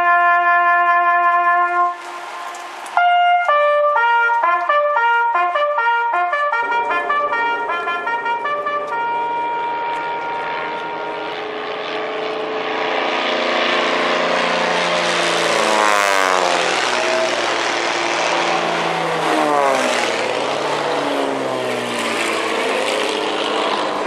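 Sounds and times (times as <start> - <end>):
propeller aircraft flying overhead: 0.0 - 24.0.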